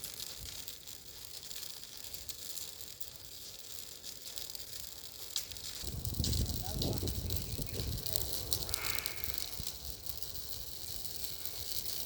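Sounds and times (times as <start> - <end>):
bonfire hissing and crackling: 0.0 - 12.0.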